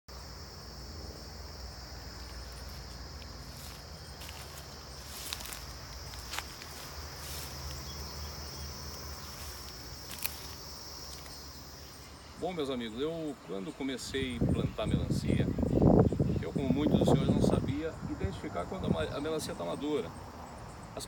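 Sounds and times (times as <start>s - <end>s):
insects chirring: 0.1s - 21.0s.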